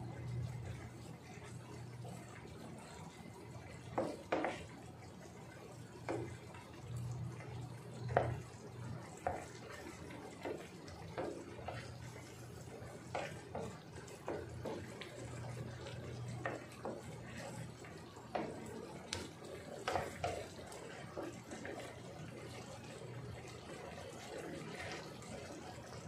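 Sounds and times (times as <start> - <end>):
risotto bubbling and popping: 0.0 - 26.0
wooden spoon stirring rice: 0.1 - 26.0.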